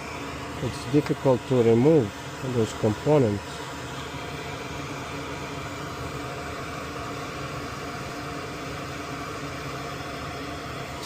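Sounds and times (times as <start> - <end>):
heat gun blowing hiss: 0.0 - 11.0.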